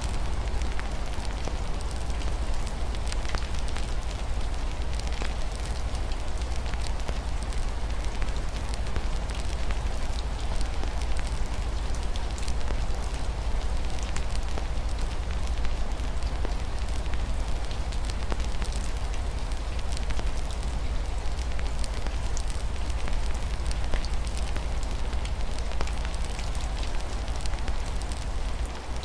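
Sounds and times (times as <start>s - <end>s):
rain on a window: 0.0s - 29.0s
wood fire crackling: 0.0s - 29.0s.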